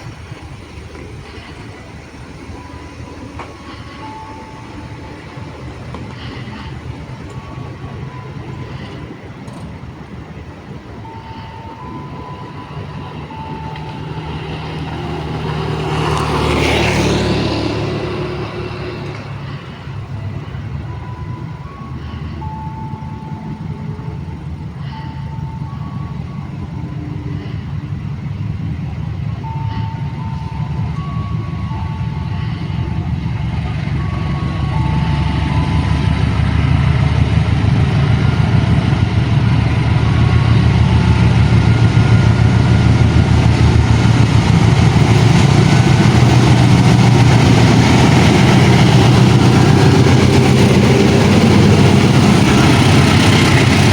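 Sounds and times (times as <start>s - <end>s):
large engine running: 0.0s - 53.9s.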